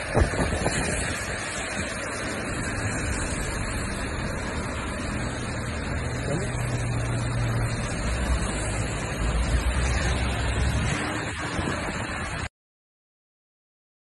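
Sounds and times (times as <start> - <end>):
low engine hum: 0.0 - 12.5
rain: 0.0 - 12.5
tyres on a wet road: 0.0 - 12.5.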